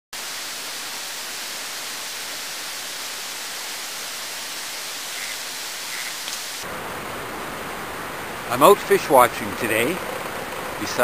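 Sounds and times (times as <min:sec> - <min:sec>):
creek water rushing: 0:00.2 - 0:11.0.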